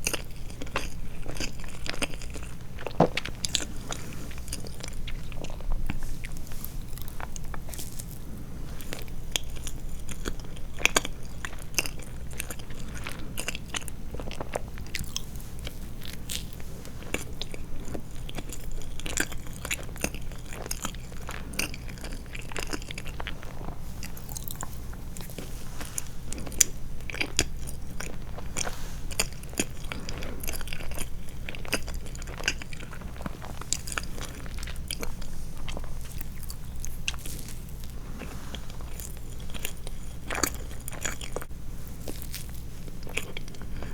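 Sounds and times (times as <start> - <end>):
chewing and mouth smacks: 0.0 - 8.2, 8.9 - 43.9.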